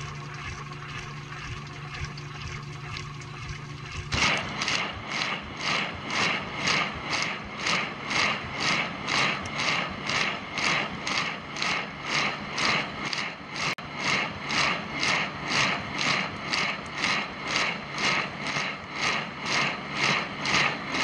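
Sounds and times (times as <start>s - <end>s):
wet laundry sloshing in drum: 0.0s - 21.0s.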